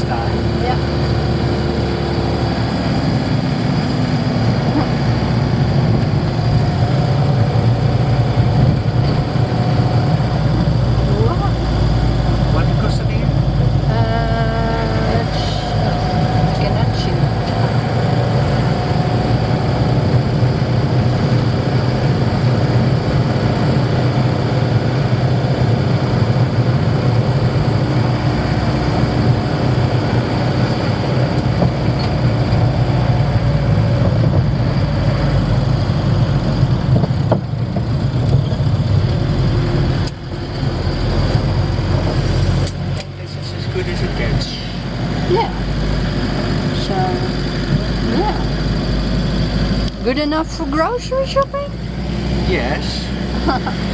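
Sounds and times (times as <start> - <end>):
road noise: 0.0 - 53.9
van engine running: 0.0 - 53.9.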